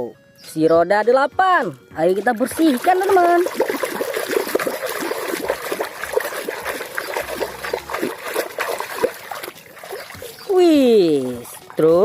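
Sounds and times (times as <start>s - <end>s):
water splashing and sloshing: 1.9s - 12.0s.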